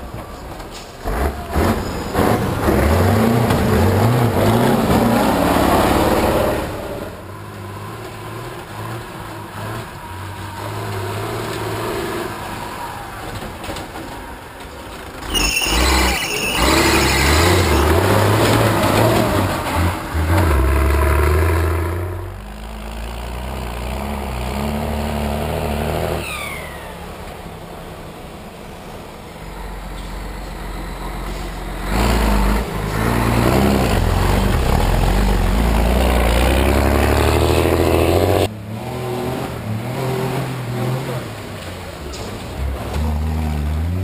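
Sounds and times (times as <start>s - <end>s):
off-road truck engines passing: 0.0s - 44.0s.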